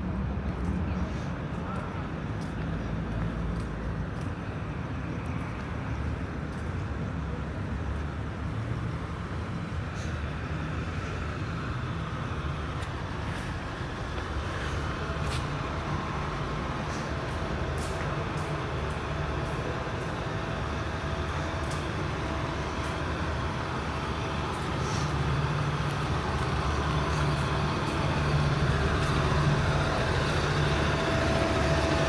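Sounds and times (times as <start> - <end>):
city rumble: 0.0 - 32.0.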